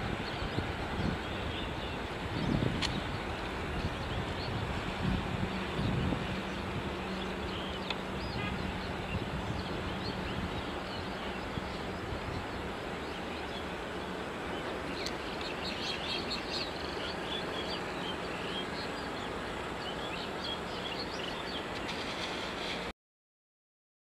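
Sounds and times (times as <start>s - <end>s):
background rush of noise: 0.0s - 22.9s
small birds chirping: 0.2s - 22.9s.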